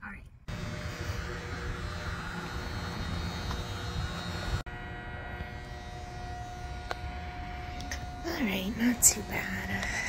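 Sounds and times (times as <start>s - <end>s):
electrical hum: 0.0s - 10.0s
road traffic rumble: 0.4s - 10.0s.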